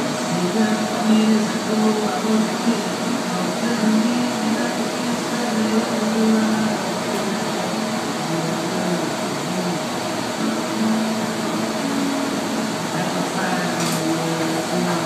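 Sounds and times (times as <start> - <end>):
furnace burner rushing: 0.0 - 15.0.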